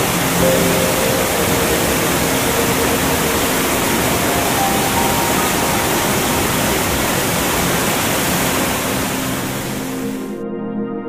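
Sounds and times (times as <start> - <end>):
waterfall roaring: 0.0 - 10.3
soft background music: 0.0 - 11.0.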